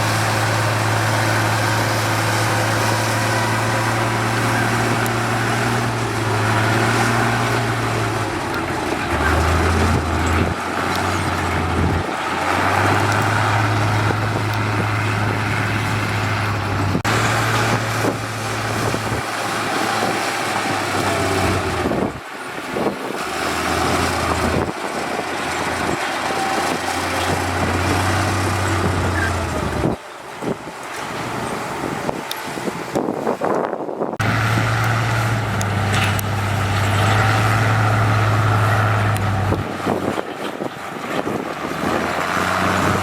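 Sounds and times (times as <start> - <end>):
heavy machinery diesel engines: 0.0 - 43.0.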